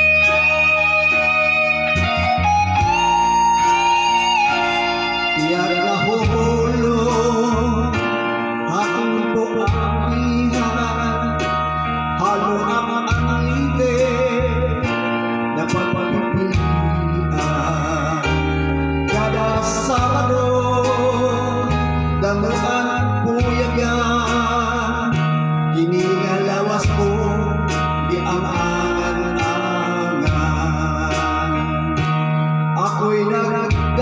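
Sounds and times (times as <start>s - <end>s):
guitar: 0.0s - 34.0s
person singing with vibrato: 0.0s - 34.0s
sustained bass notes: 0.0s - 34.0s.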